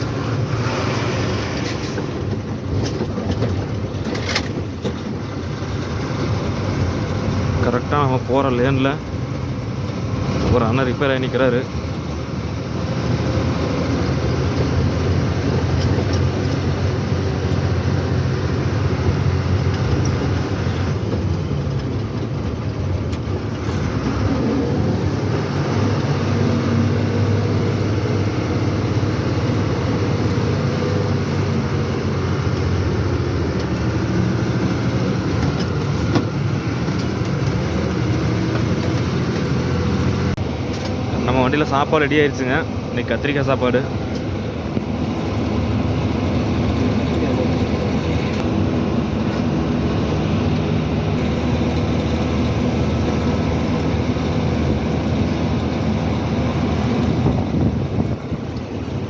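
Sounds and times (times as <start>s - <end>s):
diesel engine running: 0.0s - 59.0s
tyre and road noise: 0.0s - 59.0s.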